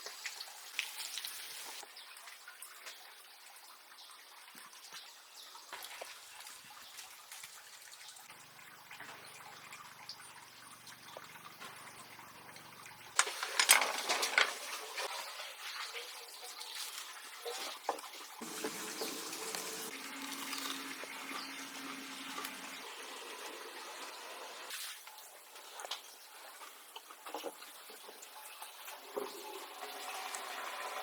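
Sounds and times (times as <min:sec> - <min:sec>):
water trickling: 0:00.0 - 0:31.0.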